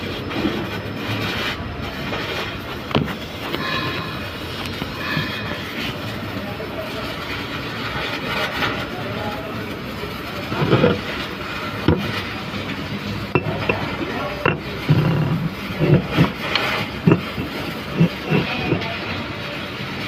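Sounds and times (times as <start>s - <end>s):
welding arc crackling: 0.0s - 20.0s.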